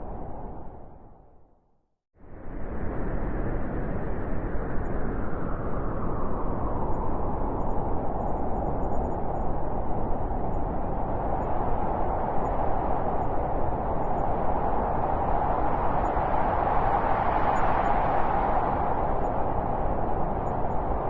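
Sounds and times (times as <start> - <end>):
blizzard wind howling: 0.0 - 1.5, 2.2 - 21.0.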